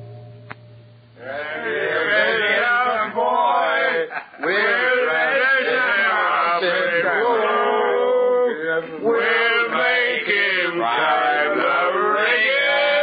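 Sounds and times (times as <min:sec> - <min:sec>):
men singing together: 0:01.2 - 0:13.0.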